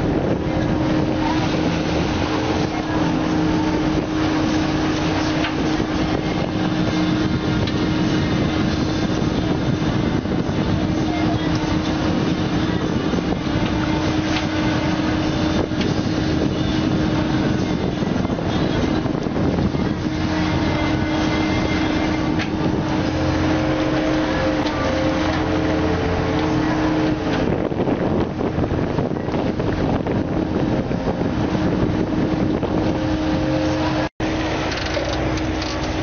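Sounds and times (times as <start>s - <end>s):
boat engine humming: 0.0s - 36.0s
water noise: 0.0s - 36.0s
wind: 0.0s - 36.0s.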